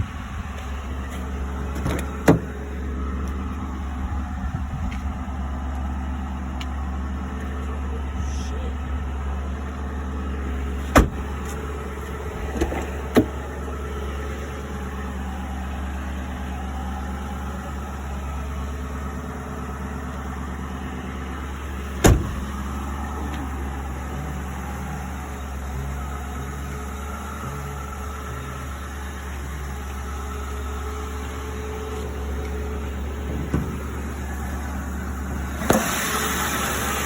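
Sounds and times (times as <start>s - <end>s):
car engine idling with exhaust leak: 0.0s - 37.0s.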